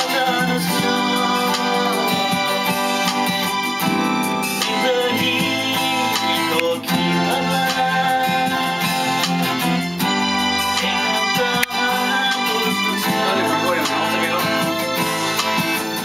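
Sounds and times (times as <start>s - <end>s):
man singing: 0.0s - 3.6s, 4.5s - 16.0s
acoustic guitar strummed: 0.0s - 16.0s
electronic keyboard chords: 0.0s - 16.0s.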